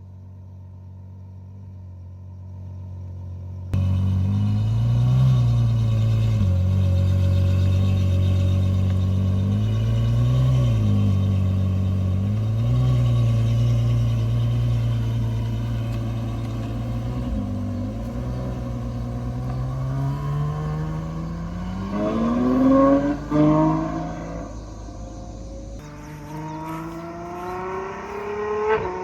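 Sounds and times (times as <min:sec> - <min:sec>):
sports car engine howling: 0:00.0 - 0:29.0.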